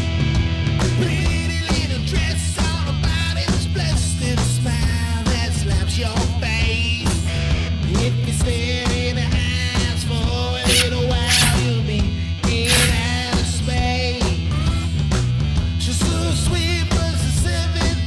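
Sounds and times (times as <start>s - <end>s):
rock music with guitar and bass: 0.0s - 18.0s.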